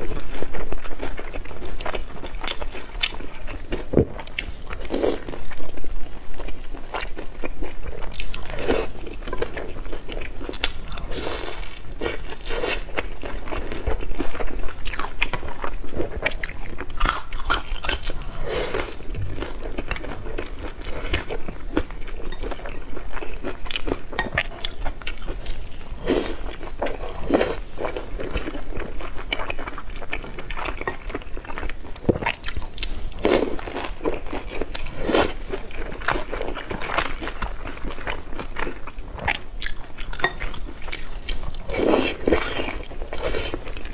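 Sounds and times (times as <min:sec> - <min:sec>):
crunchy biting and chewing: 0:00.0 - 0:43.9.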